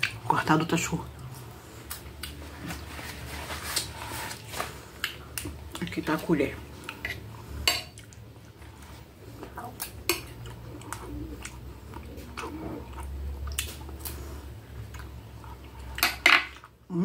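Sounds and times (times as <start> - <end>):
person chewing food: 1.2 - 2.8, 3.7 - 5.9, 6.7 - 16.8.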